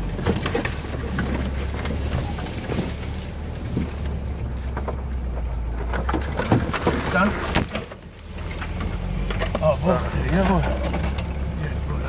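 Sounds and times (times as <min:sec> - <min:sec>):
knocks and scrapes from brush: 0:00.0 - 0:12.0
vehicle engine low drone: 0:00.0 - 0:12.0.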